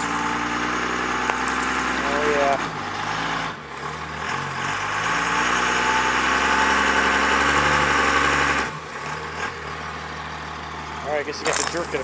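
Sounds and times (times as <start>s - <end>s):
diesel engine revving under load: 0.0s - 12.0s.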